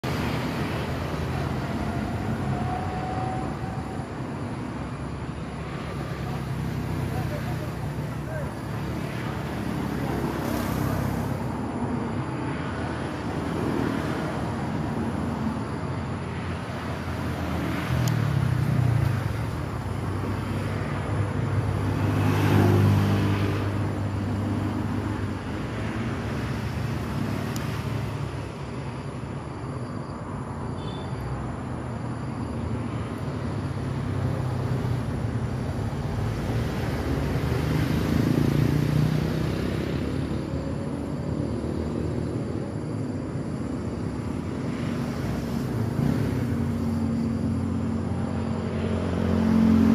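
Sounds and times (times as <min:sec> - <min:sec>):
cars passing: 0:00.0 - 0:49.9.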